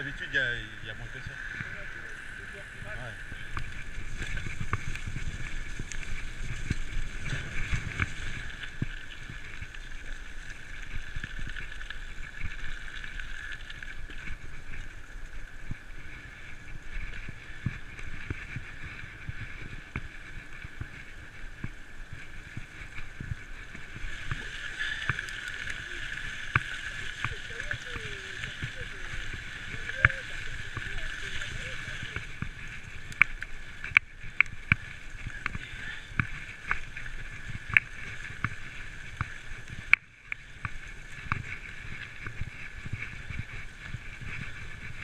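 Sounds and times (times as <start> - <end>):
wind on microphone: 0.0 - 11.6, 14.2 - 45.0
tyres rumbling over rough ground: 0.0 - 45.0
bike clicks and rattles: 3.4 - 45.0.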